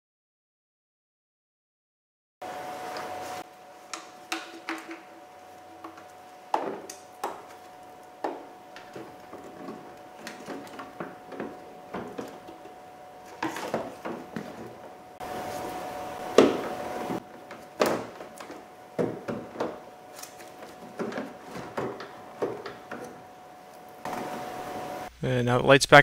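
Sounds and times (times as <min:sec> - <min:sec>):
faint steady hum: 0:02.4 - 0:26.0.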